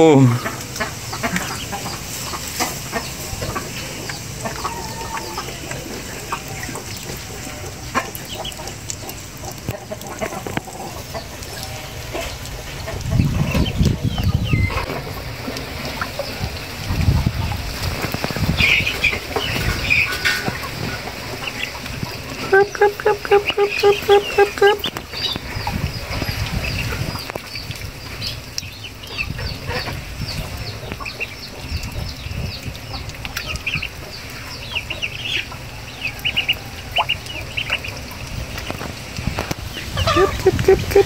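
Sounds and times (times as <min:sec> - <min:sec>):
ducklings peeping: 0:00.3 - 0:41.0.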